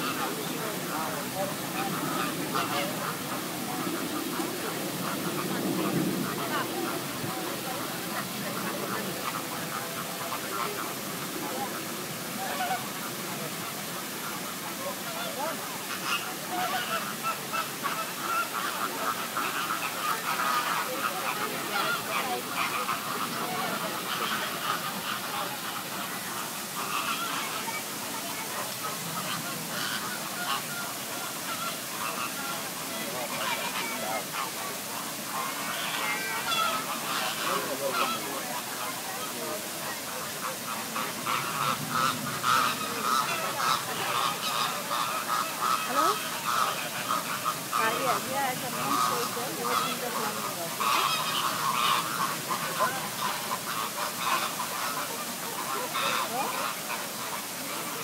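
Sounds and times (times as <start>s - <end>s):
flock of birds honking: 0.0s - 58.0s
waterbirds calling: 0.0s - 58.0s.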